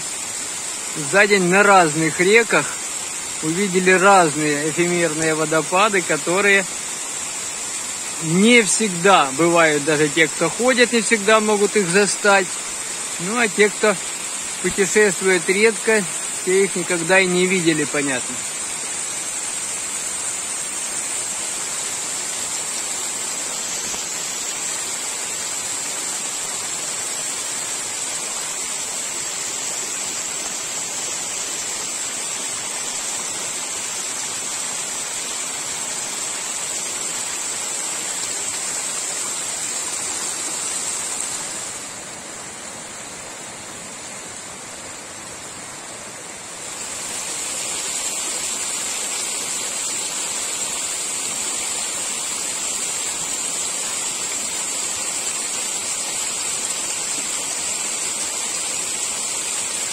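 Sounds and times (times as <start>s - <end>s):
shallow stream running: 0.0s - 59.9s
waterfall rushing: 0.0s - 59.9s.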